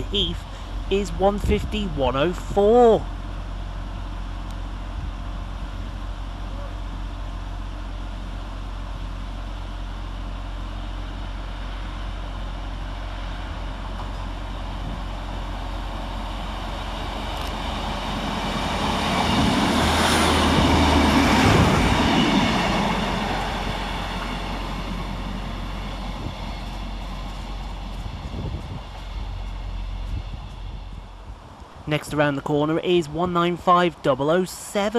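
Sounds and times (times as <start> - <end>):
diesel train passing: 0.0 - 34.9.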